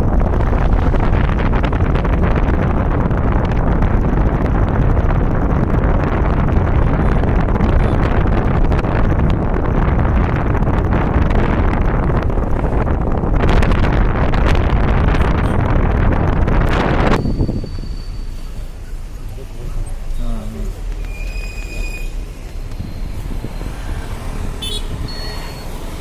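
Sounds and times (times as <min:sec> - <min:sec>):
vehicle road noise: 0:00.0 - 0:26.0
wind rumble on microphone: 0:00.0 - 0:26.0.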